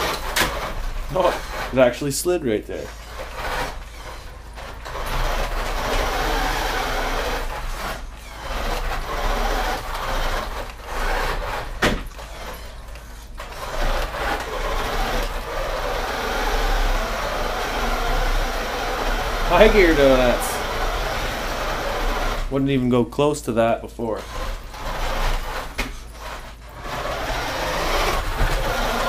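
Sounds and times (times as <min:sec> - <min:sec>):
tyres scrubbing on wooden floor: 0:00.0 - 0:22.6, 0:24.1 - 0:29.0
electric motor and gears whirring: 0:00.0 - 0:29.0.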